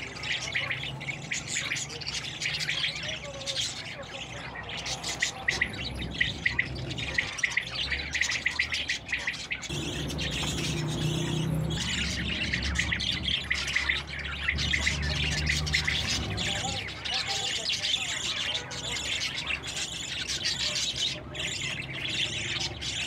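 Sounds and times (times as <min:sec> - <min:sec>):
budgerigars chirping and squawking: 0:00.0 - 0:23.0.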